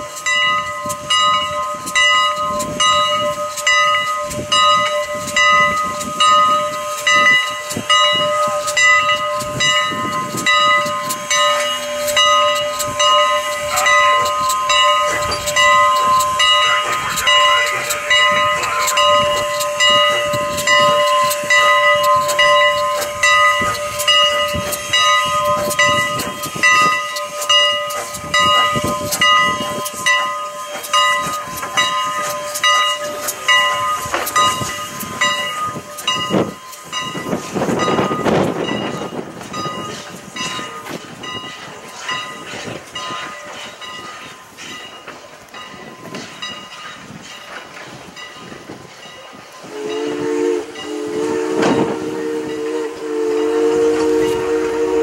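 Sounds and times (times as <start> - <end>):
locomotive bell ringing: 0.0 - 55.0
steam locomotive chuffing: 0.0 - 55.0.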